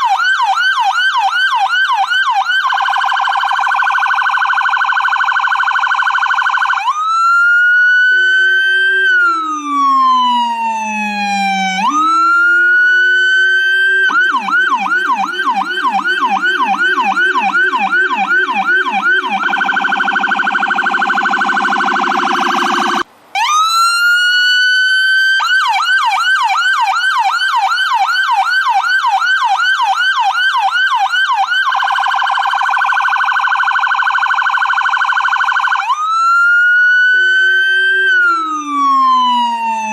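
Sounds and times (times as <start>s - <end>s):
ambulance siren: 0.0s - 39.9s.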